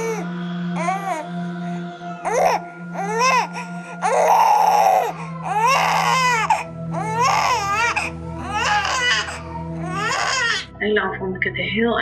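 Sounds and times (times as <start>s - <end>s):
infant crying: 0.0s - 1.3s, 2.2s - 10.7s.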